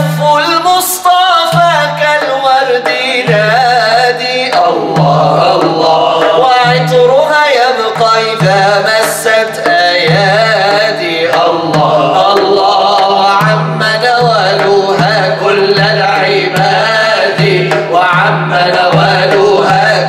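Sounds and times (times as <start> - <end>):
man singing melodic line: 0.0 - 20.0
frame drum beats: 1.4 - 20.0.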